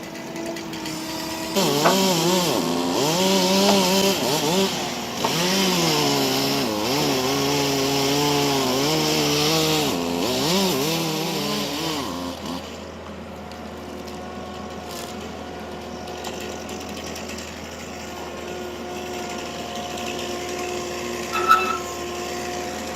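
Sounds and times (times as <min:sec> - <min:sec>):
chainsaw cutting wood: 0:00.0 - 0:12.9, 0:14.0 - 0:22.9.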